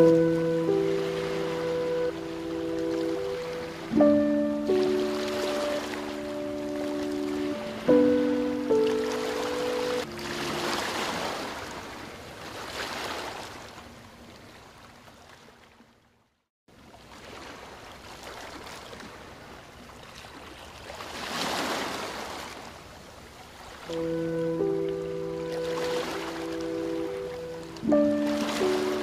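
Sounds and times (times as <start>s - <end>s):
water rushing and sloshing: 0.0s - 29.0s.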